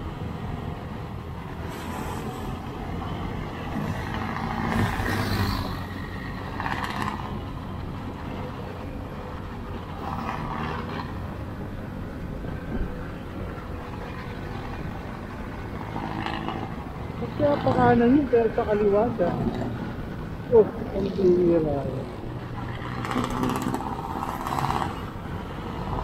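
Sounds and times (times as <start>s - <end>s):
traffic engines rumbling: 0.0s - 26.0s.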